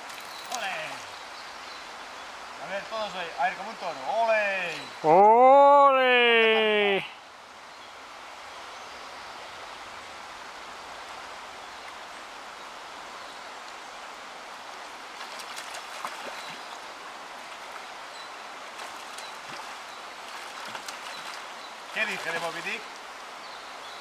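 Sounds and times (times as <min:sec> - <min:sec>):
river current rushing: 0:00.0 - 0:24.0.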